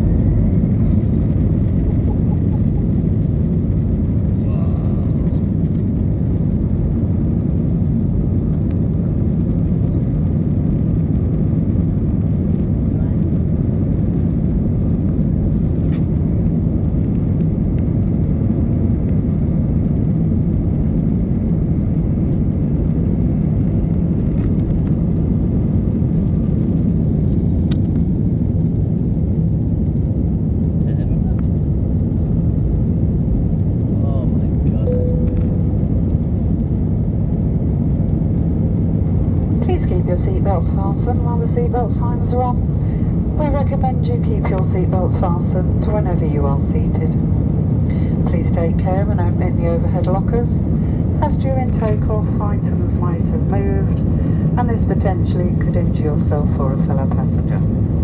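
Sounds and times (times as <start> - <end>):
airplane engine roar in cabin: 0.0 - 58.0.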